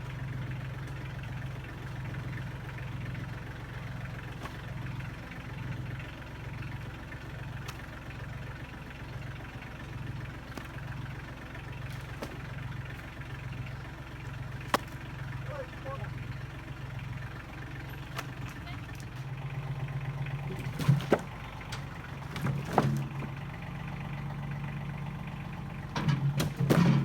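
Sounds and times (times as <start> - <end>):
engine pulsing hum: 0.0 - 27.0.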